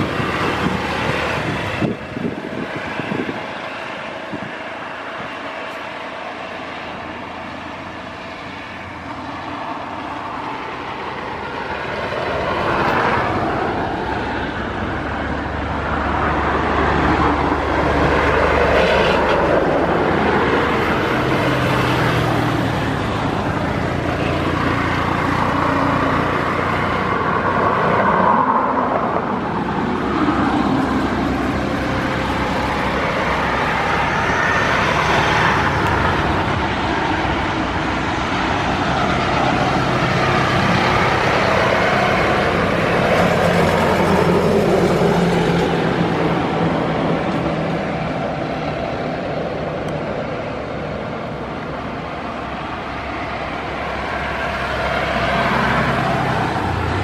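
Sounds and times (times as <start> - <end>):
jet engines running at low power: 0.0 - 57.0.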